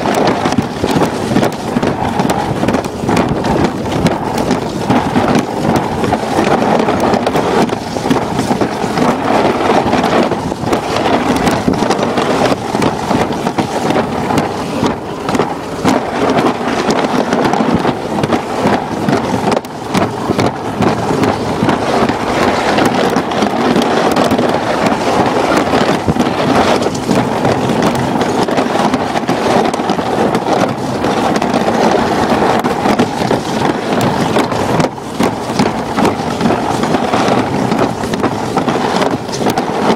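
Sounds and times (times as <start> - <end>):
sled rolling on track: 0.0 - 39.9.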